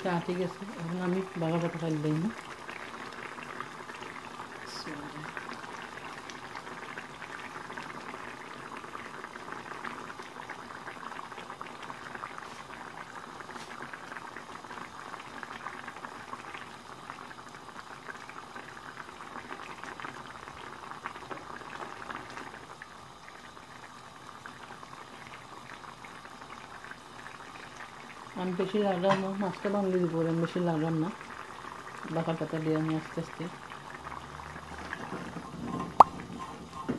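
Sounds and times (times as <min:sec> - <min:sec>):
curry bubbling in frying pan: 0:00.0 - 0:36.9.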